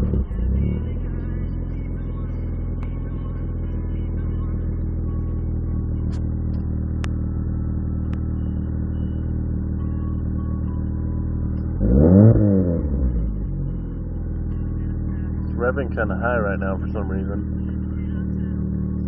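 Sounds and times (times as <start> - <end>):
car engine idling: 0.0 - 19.0
car engine revving: 0.0 - 19.0.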